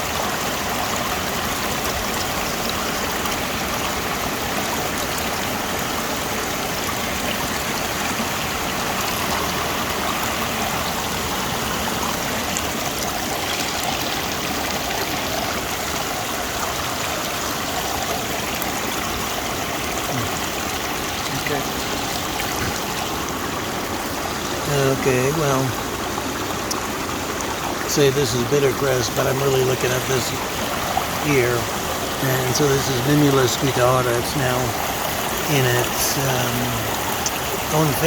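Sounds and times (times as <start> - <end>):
stream flowing water: 0.0 - 38.0.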